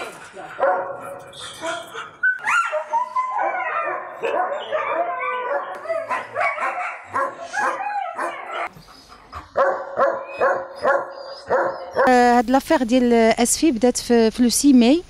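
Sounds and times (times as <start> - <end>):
dogs barking: 0.0 - 12.1.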